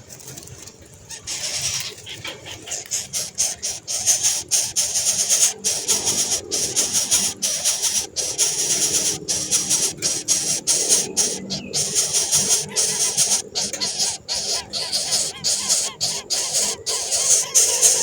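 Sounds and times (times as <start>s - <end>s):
nestlings begging calls: 1.1s - 18.0s.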